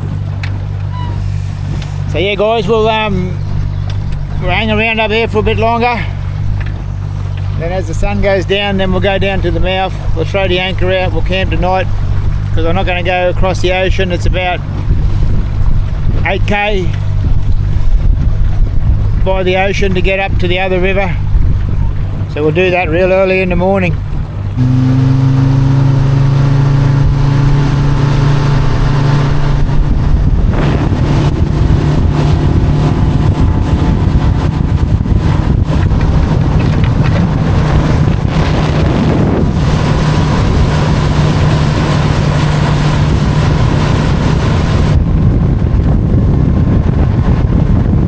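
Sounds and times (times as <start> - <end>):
outboard motor running: 0.0 - 48.0
wind buffeting microphone: 0.0 - 48.0.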